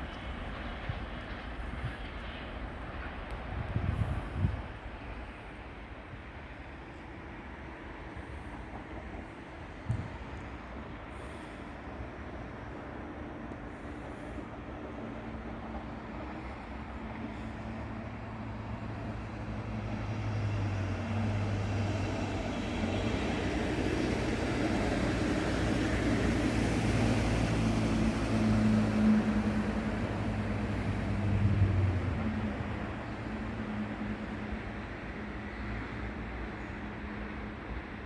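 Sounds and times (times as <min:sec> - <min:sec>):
train rumbling through station: 0:00.0 - 0:38.0.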